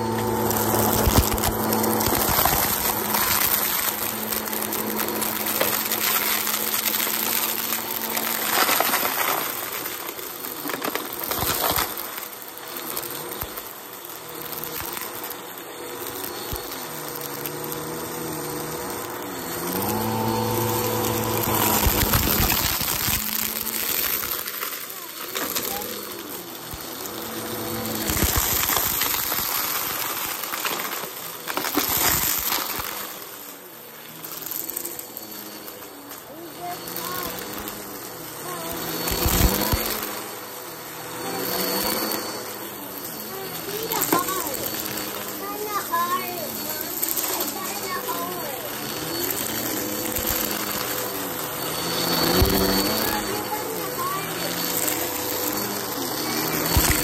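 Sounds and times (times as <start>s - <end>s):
confetti rattling through vacuum: 0.0s - 33.5s, 35.8s - 37.7s, 38.4s - 40.2s, 43.3s - 57.0s
vacuum cleaner motor whine: 0.0s - 57.0s.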